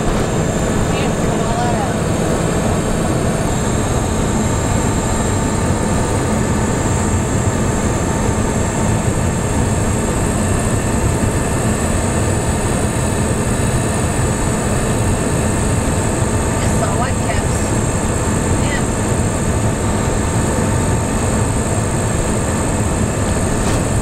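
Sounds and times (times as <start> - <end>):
motorhome engine: 0.0 - 24.0.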